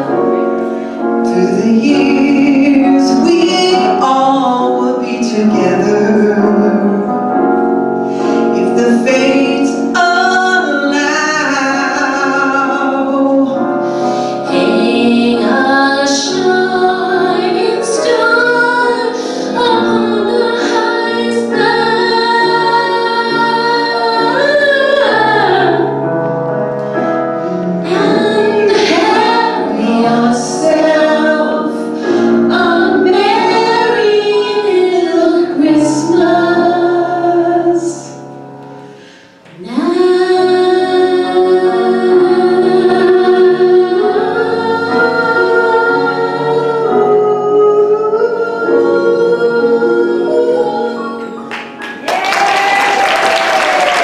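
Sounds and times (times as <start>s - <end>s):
two women singing a duet: 0.0s - 7.4s, 8.1s - 26.0s, 27.4s - 38.3s, 39.0s - 51.6s
musical accompaniment: 0.0s - 54.0s.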